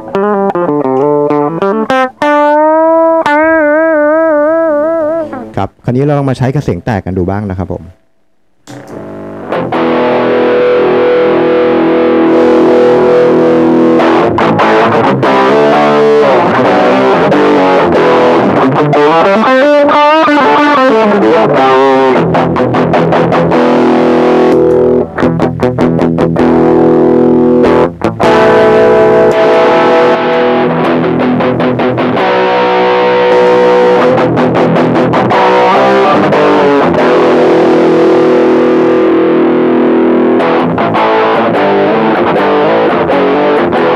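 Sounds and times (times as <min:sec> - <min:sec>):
distorted electric guitar: 0:00.0 - 0:43.9.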